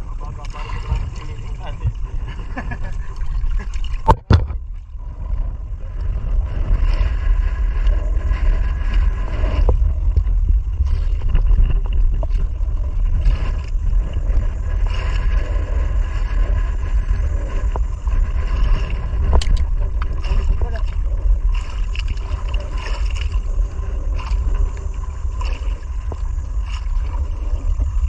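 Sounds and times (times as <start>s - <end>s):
boat engine running: 0.0s - 28.0s
water rushing past hull: 0.0s - 28.0s
wind: 0.0s - 28.0s.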